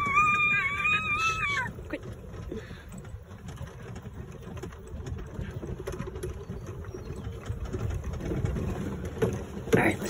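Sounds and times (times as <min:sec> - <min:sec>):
golf cart rumbling over grass: 0:00.0 - 0:10.0.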